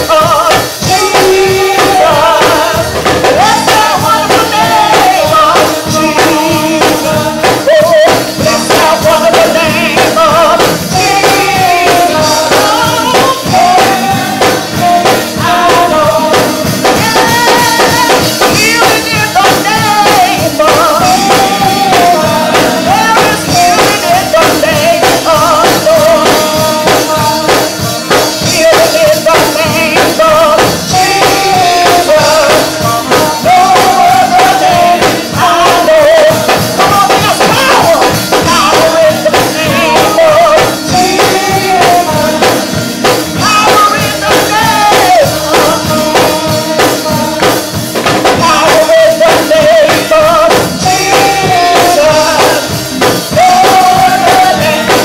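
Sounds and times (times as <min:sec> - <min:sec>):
instrumental accompaniment with beat: 0:00.0 - 0:55.0
woman singing gospel: 0:00.0 - 0:55.0.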